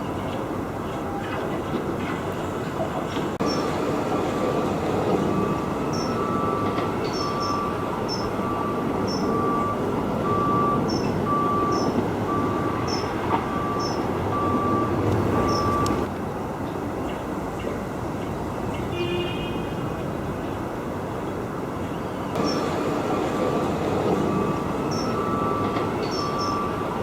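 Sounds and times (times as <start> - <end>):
train rumble: 0.0 - 18.8, 19.7 - 27.0.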